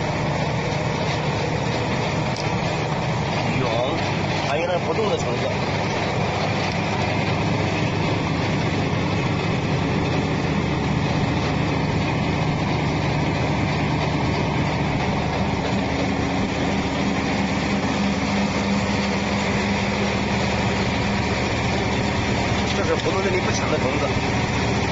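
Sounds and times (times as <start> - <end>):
machine humming and rumbling: 0.0 - 24.9.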